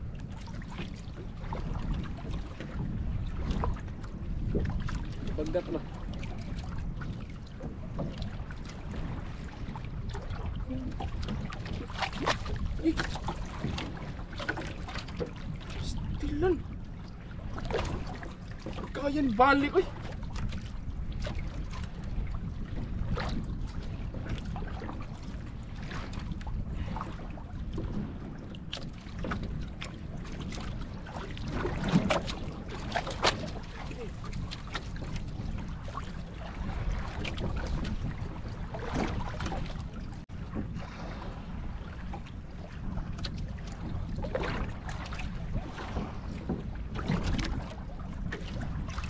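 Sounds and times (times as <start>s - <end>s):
water sloshing against boat hull: 0.0s - 49.0s
wind rumbling on microphone: 0.0s - 49.0s.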